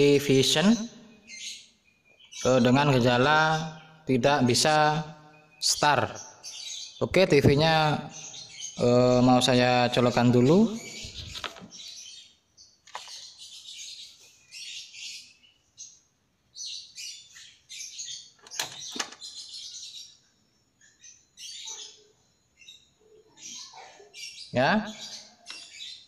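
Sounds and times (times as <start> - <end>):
small birds twittering: 0.0 - 26.0.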